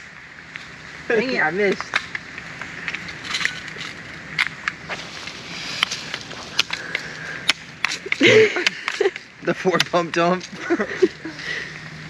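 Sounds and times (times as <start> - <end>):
cicada chorus drone: 0.0 - 12.0.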